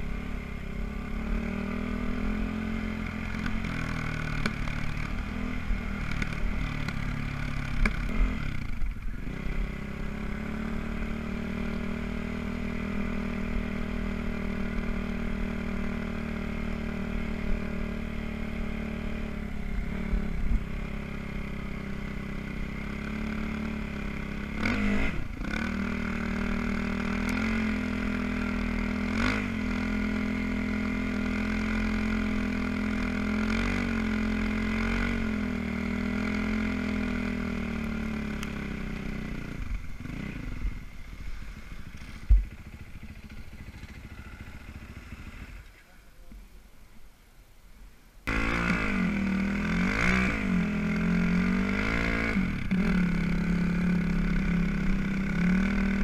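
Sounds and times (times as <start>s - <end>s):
motorcycle engine revving: 0.0s - 45.8s, 48.3s - 56.0s.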